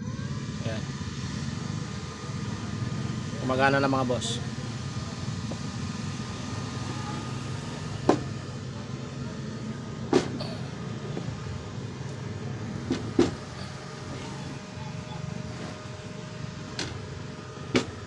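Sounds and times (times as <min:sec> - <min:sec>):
welder cooling fan hum: 0:00.0 - 0:18.0.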